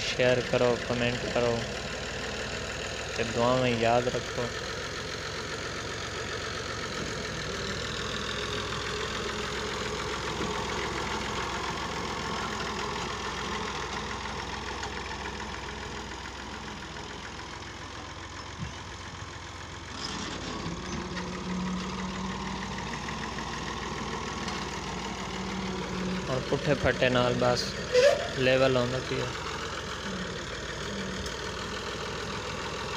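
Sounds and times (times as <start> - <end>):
diesel tractor engine running: 0.0 - 32.9.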